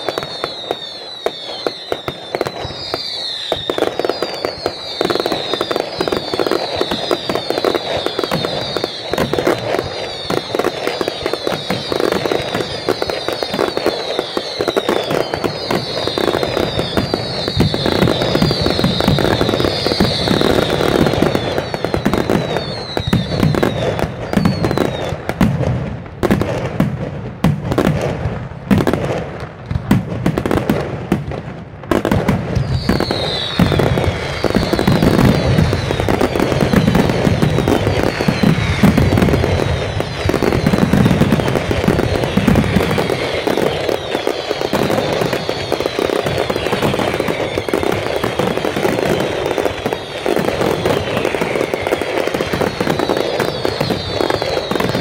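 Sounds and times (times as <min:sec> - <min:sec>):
fireworks bursts and crackling: 0:00.0 - 0:55.0.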